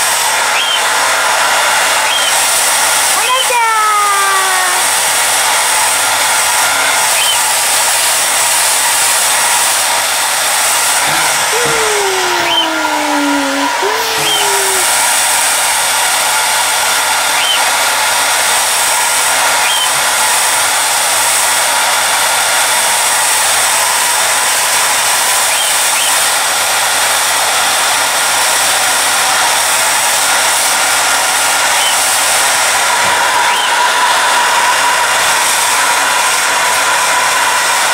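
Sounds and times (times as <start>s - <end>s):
hair dryer blowing: 0.0s - 37.9s.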